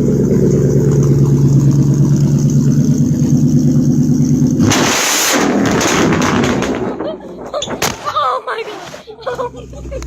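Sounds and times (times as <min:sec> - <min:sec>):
car engine with loud exhaust: 0:00.0 - 0:08.0, 0:08.9 - 0:10.0.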